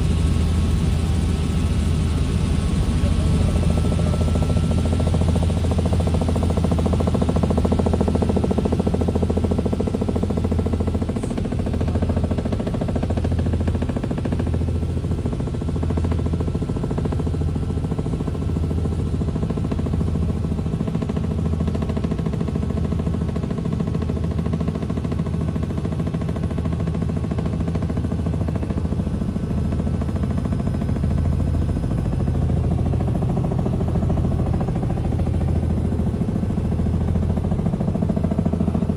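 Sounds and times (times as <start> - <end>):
vehicle engine throbbing hum: 0.0 - 38.9.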